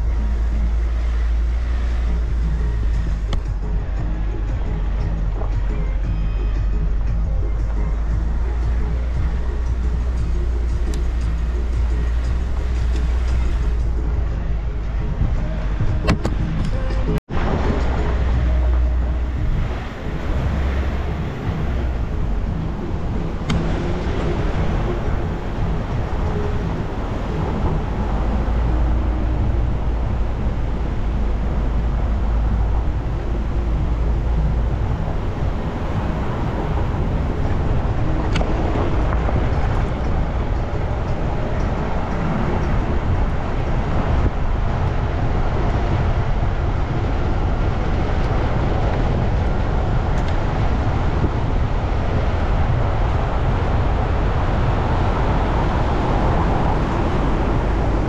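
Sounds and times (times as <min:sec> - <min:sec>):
vehicle engine and road rumble: 0:00.0 - 0:58.0
wind on microphone: 0:00.0 - 0:58.0.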